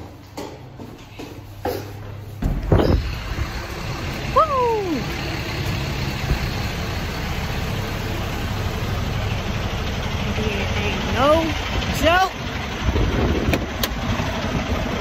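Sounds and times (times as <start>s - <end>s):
diesel engine idling: 2.2s - 15.0s.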